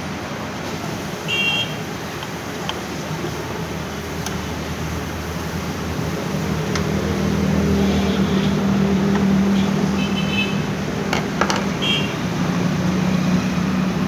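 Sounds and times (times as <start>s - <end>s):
copier humming: 0.6s - 14.0s.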